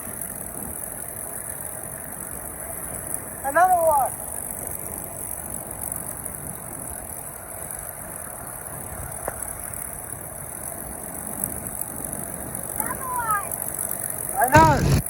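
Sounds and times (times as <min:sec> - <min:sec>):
aircraft piston engines rumbling: 0:00.0 - 0:15.0.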